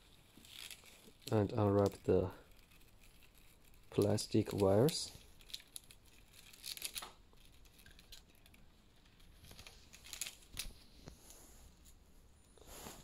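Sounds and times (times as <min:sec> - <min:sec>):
plastic wrap crinkling: 0:00.0 - 0:11.3.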